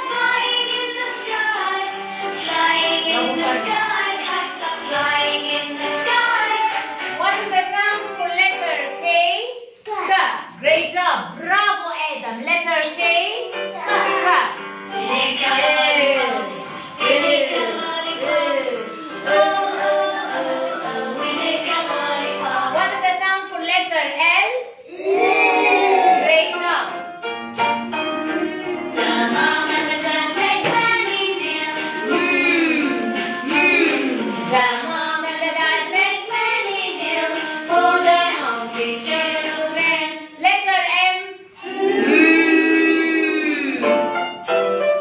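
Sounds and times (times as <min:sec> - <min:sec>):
children's song with backing music: 0:00.0 - 0:45.0.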